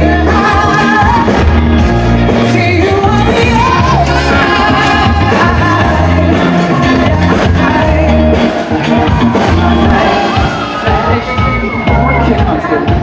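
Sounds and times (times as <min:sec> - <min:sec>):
held bass notes: 0:00.0 - 0:13.0
rock band playing: 0:00.0 - 0:13.0
steady drum beat: 0:00.0 - 0:13.0.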